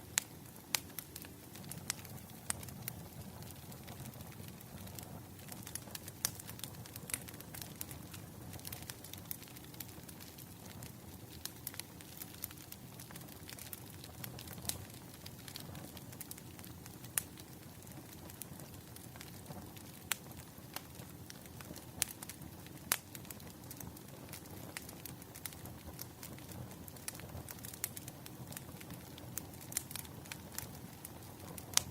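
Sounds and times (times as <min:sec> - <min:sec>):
firewood burning and crackling: 0:00.0 - 0:31.9.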